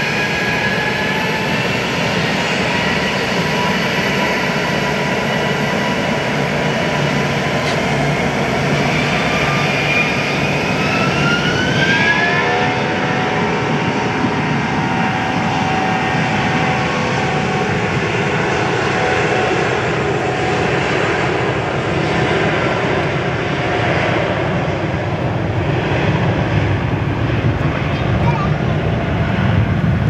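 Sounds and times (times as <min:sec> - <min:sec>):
airliner engines at high power: 0:00.0 - 0:30.0.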